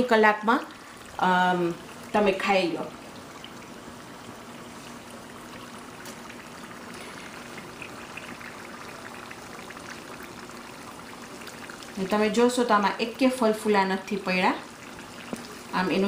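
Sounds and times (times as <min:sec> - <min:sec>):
deep-frying sizzling and bubbling: 0:00.0 - 0:16.0.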